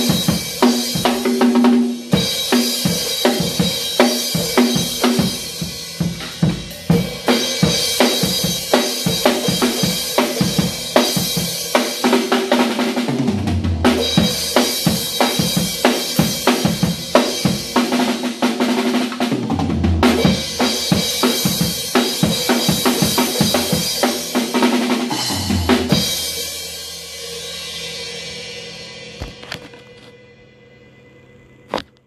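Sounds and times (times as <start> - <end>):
drum kit playing: 0.0 - 30.1.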